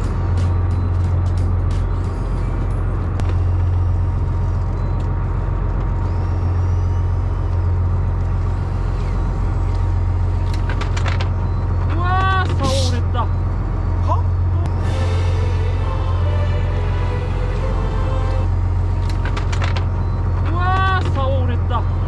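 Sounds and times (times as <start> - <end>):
boat machinery drone: 0.0 - 22.0
faint constant whine: 0.0 - 22.0.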